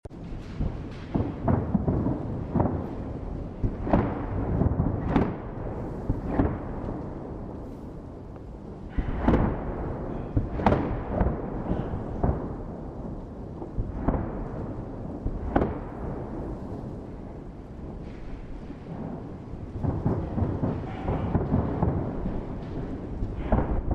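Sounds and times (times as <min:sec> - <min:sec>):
firework shells booming: 0:00.1 - 0:23.9
low rolling rumble: 0:00.1 - 0:23.9.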